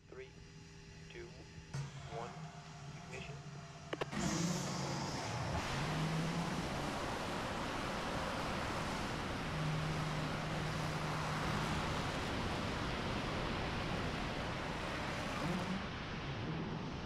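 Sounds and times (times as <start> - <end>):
rocket engine exhaust rushing: 1.8 - 17.0.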